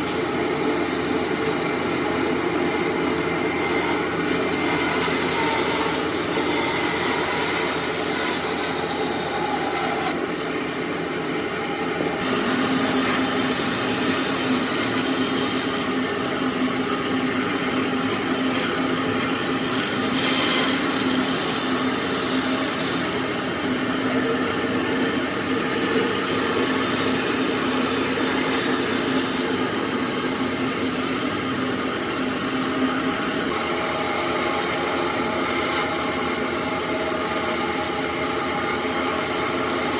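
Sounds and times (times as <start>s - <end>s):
power tool rasping wood: 0.0s - 39.9s.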